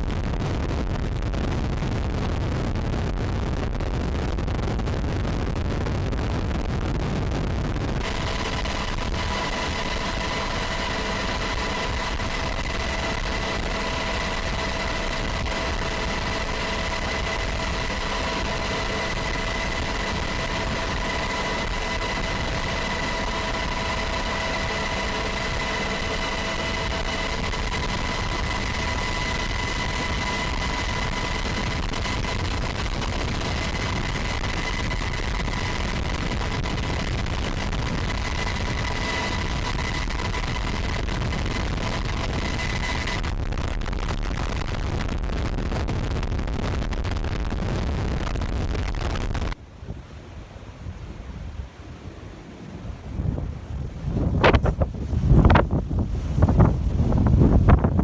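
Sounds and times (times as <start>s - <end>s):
machine drone with whining tones: 0.0s - 49.6s.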